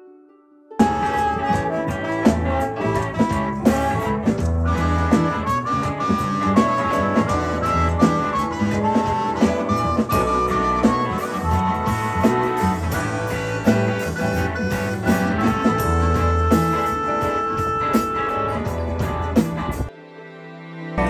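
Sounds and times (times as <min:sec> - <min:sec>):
bass: 0:00.8 - 0:19.9
drum beat: 0:00.8 - 0:19.9
harmonica playing lead: 0:00.8 - 0:19.9.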